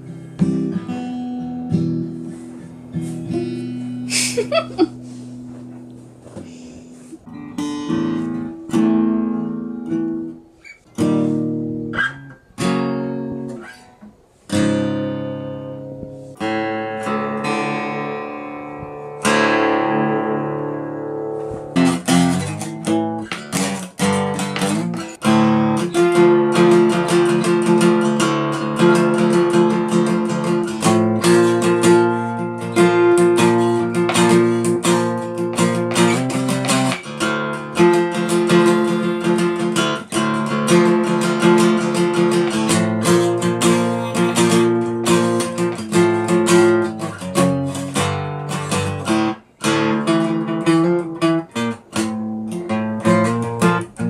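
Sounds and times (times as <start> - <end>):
acoustic guitar: 0.0 - 54.0.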